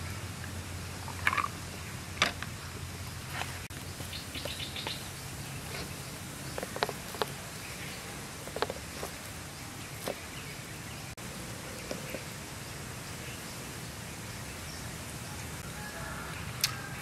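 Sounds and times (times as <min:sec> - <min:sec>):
insects chirping: 0:00.0 - 0:15.3
birds chirping: 0:00.0 - 0:17.0.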